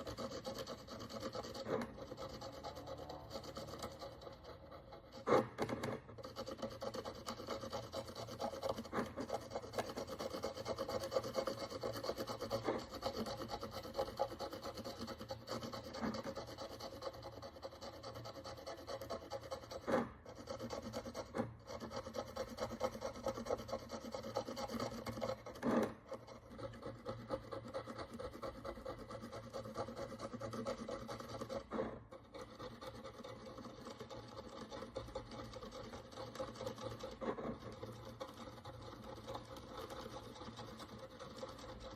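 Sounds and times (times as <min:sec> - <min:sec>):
hand tool scraping coin: 0:00.0 - 0:41.9.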